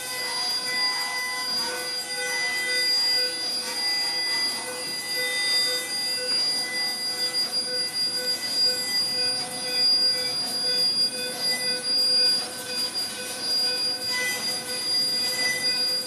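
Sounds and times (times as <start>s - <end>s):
high-pitched electronic drone tones: 0.0s - 16.0s
pulsing lower tone: 0.0s - 16.0s.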